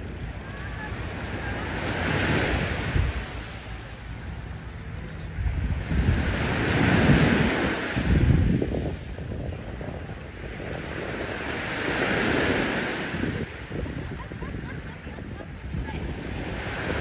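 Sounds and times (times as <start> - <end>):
waves washing on beach: 0.0 - 17.0
wind buffeting microphone: 0.0 - 17.0.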